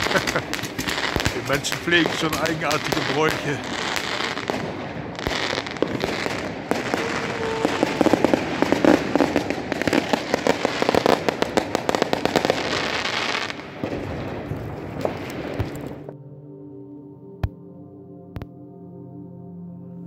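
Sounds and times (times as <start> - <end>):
fireworks crackling: 0.0 - 16.1.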